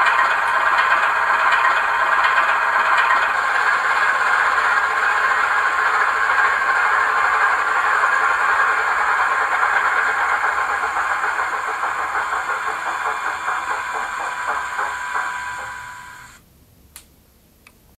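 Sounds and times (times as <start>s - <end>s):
diesel engine whine through small speaker: 0.0s - 16.4s.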